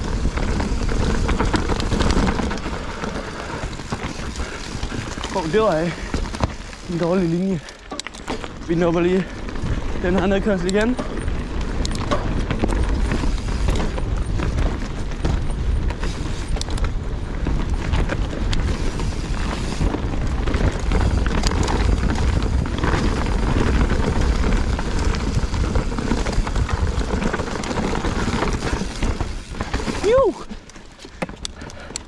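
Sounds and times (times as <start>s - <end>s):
wind buffeting microphone: 0.0s - 31.9s
bike rattling over bumps: 0.0s - 32.0s.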